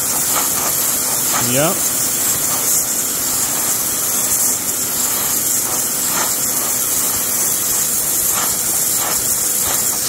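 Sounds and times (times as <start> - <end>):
pressure washer spray hissing: 0.0 - 10.0.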